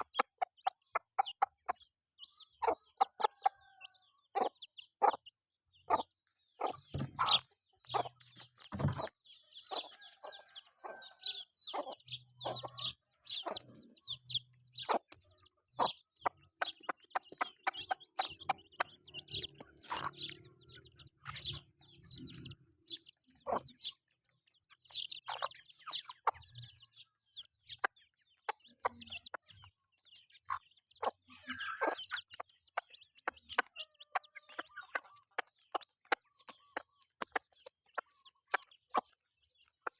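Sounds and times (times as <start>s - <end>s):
chickens clucking softly: 0.0s - 39.9s.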